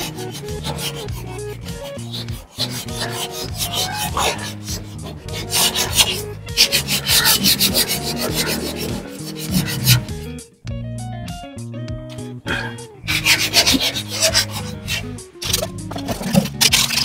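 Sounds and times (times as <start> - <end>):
sandpaper rubbing on metal panel: 0.0 - 10.3, 13.1 - 17.0
background music: 0.0 - 17.0.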